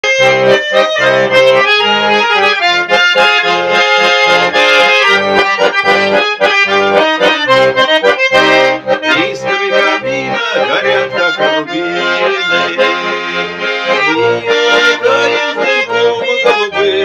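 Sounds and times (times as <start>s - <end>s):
button accordion playing: 0.0s - 17.0s.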